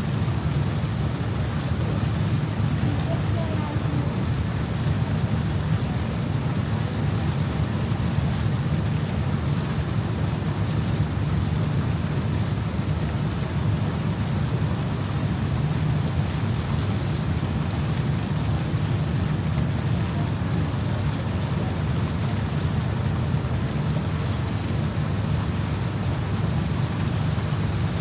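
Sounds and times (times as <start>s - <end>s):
water rushing along boat hull: 0.0s - 28.0s.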